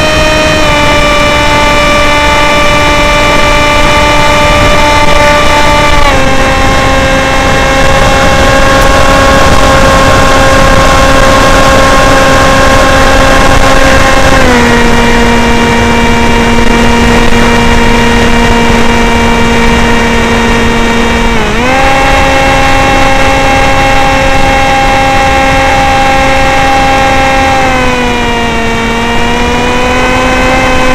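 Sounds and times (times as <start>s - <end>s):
electric motor whining: 0.0s - 30.9s.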